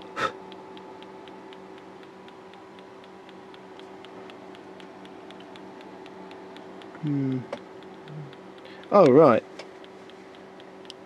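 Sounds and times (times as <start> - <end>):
electrical hum: 0.0 - 11.0
faint rapid ticking: 0.4 - 11.0.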